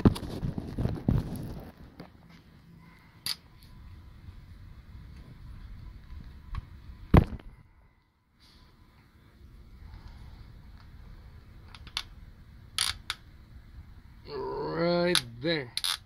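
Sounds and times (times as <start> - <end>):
faint low rumble: 0.0 - 15.1.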